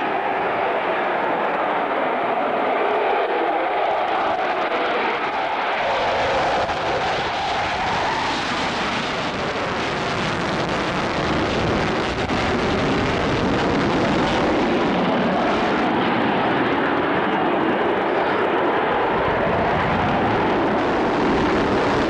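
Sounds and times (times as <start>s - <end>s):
airplane engine noise: 0.0s - 22.0s.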